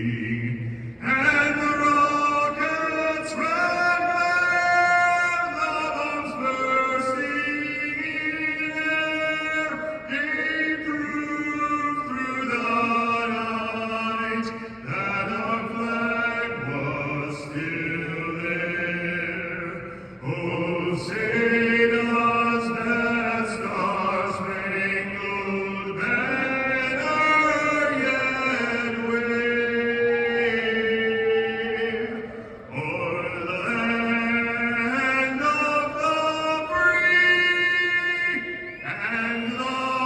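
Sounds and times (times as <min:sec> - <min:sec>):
anthem being sung: 0:00.0 - 0:40.0.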